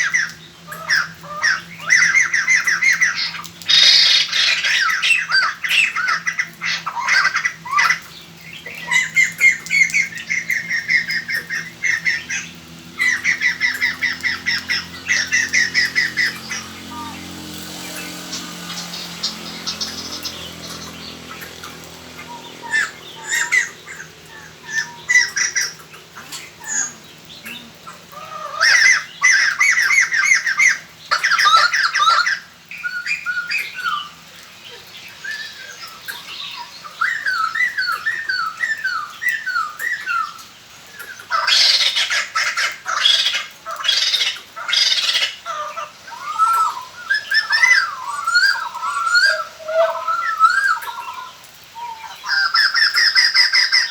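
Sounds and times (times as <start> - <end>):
birds chattering and squawking: 0.0 - 53.9.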